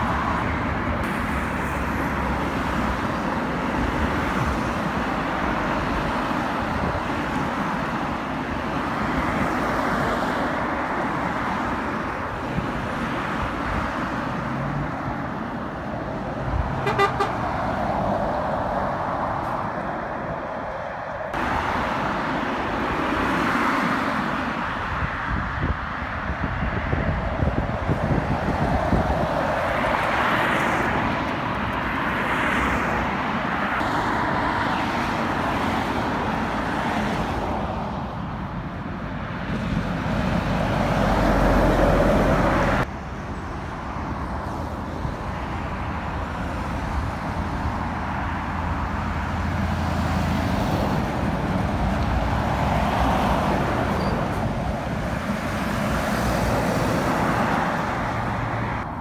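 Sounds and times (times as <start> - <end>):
traffic passing: 0.0 - 59.0.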